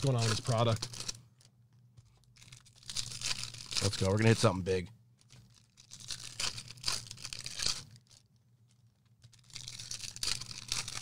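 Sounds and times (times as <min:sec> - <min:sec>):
plastic wrap and foil crinkling: 0:00.0 - 0:01.5, 0:02.1 - 0:11.0.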